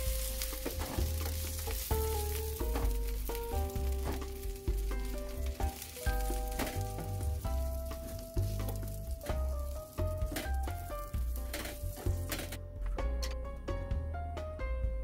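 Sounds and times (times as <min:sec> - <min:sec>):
food sizzling in hot oil: 0:00.0 - 0:12.3
simple melody over bass notes: 0:00.0 - 0:15.0.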